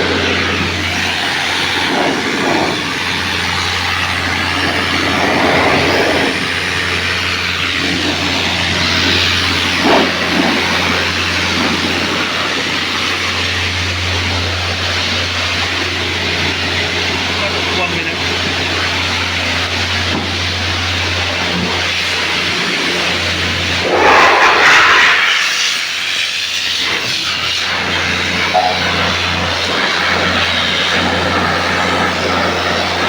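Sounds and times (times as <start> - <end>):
machine rushing noise: 0.0 - 33.0.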